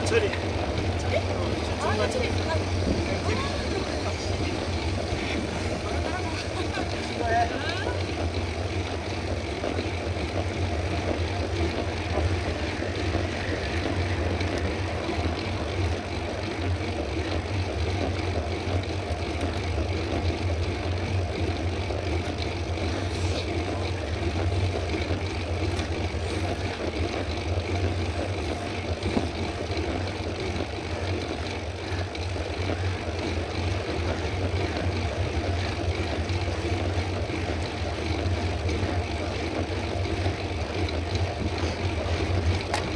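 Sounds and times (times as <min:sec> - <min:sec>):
bike rolling noise: 0:00.0 - 0:42.9.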